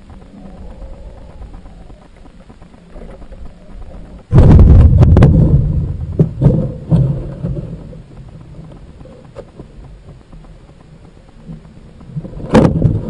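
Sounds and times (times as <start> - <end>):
loud surge of noise: 0.0 - 11.4
low rumbling noise: 0.0 - 13.0.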